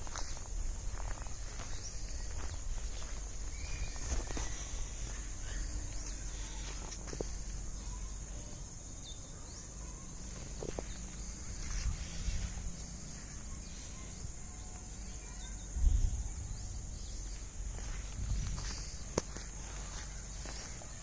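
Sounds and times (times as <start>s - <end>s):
insect chirring: 0.0s - 21.0s
outdoor background noise: 0.0s - 21.0s.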